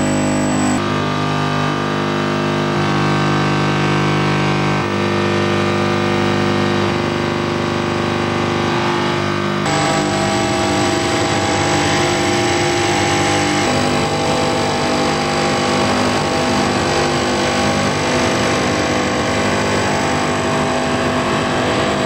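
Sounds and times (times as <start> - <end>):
dense electronic drone: 0.0 - 22.0.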